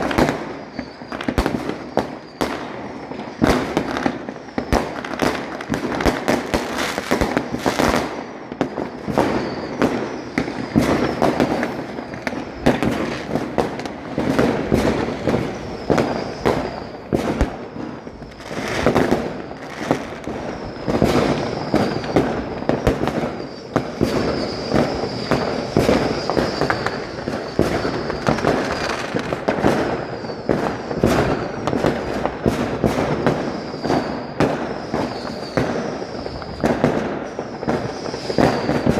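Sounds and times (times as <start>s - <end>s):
faint high whistle: 0.0s - 5.6s, 6.2s - 32.0s, 32.8s - 38.9s
fireworks bangs and crackles: 0.0s - 38.9s.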